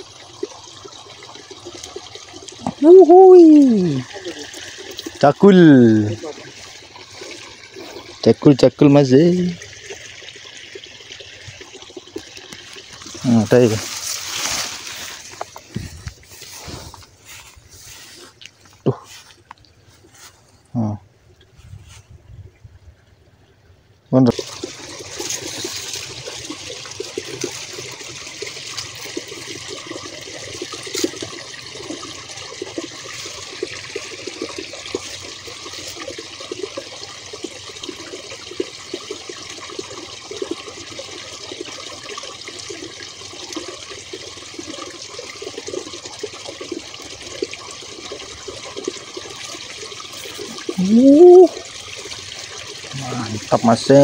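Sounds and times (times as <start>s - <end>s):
water trickling in a ditch: 0.0s - 54.0s.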